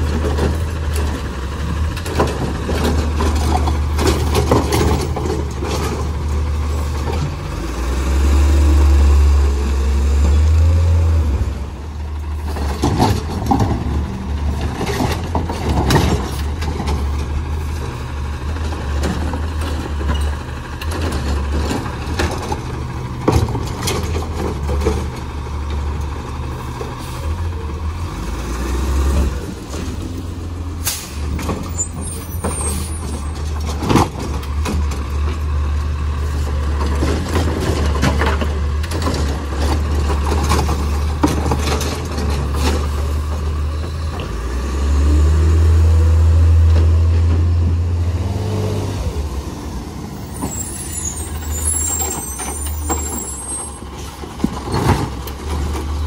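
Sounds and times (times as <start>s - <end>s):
cart and arm clanking: 0.0s - 8.0s, 11.6s - 48.0s, 49.0s - 56.0s
garbage truck engine revving: 0.0s - 56.0s.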